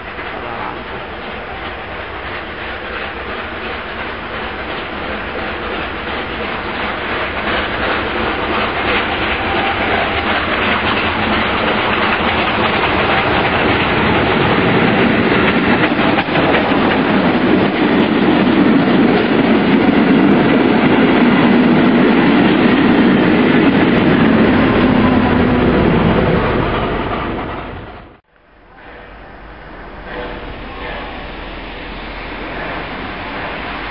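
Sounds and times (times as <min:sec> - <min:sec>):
coaches rolling on rails: 0:00.0 - 0:33.9
electric locomotive passing: 0:00.0 - 0:33.9
steam train passing: 0:00.0 - 0:33.9.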